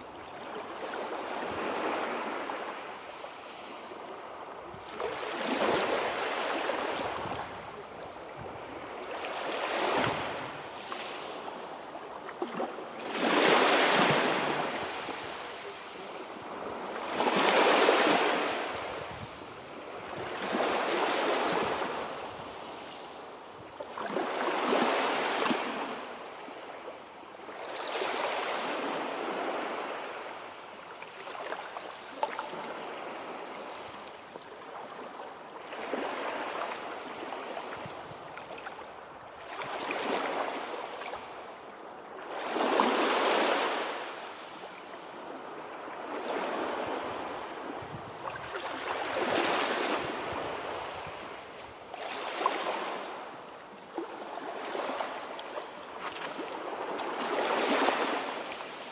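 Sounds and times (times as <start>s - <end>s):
sea waves on shore: 0.0s - 58.9s.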